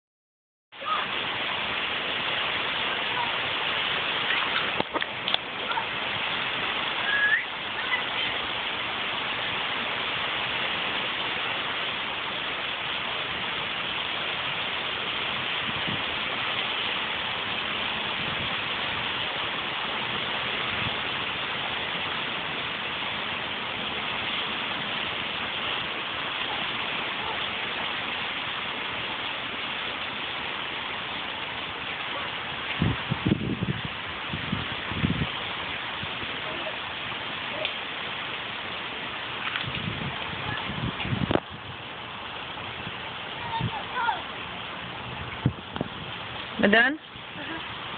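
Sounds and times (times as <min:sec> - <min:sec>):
rain falling: 0:00.7 - 0:47.9.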